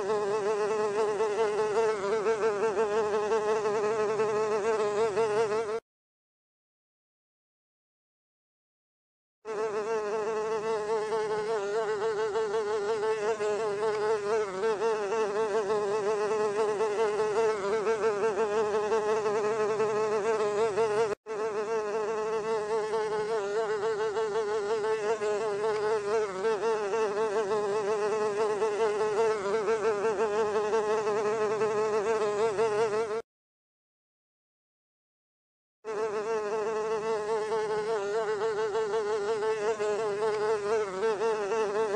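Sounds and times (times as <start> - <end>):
housefly buzzing: 0.0 - 5.8, 9.5 - 33.3, 35.8 - 41.9.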